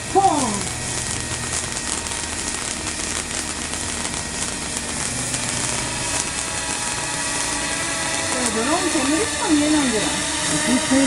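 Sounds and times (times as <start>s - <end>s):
firework fountain hissing and crackling: 0.0s - 11.0s.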